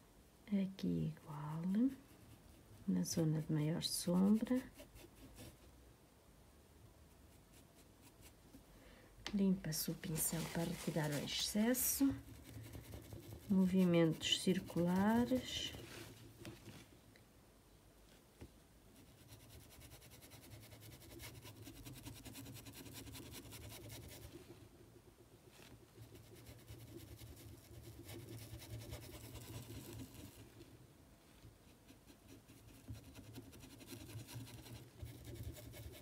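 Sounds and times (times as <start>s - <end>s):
paintbrush scratching on fabric: 1.6s - 5.7s, 7.1s - 8.6s, 9.7s - 16.9s, 19.0s - 30.7s, 31.6s - 36.0s.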